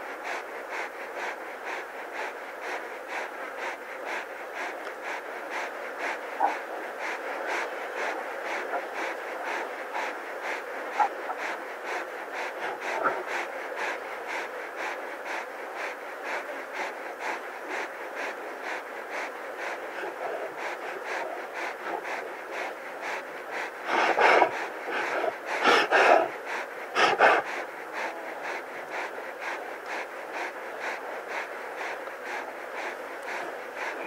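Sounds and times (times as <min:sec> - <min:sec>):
lion breathing loudly: 0:00.0 - 0:34.0
lion panting: 0:00.0 - 0:34.0.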